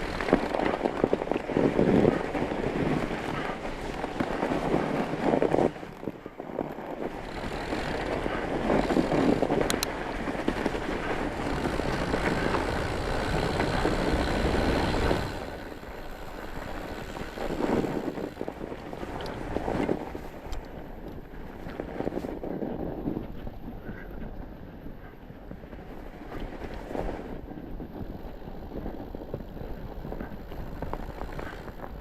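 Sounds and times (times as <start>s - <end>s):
bike tyres rolling on snow: 0.0s - 32.0s
wind on microphone: 0.0s - 32.0s.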